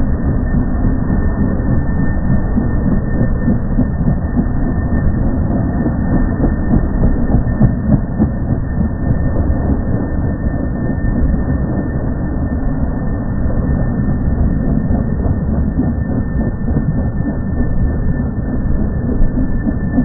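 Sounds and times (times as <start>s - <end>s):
slowed helicopter rumble: 0.0s - 20.0s.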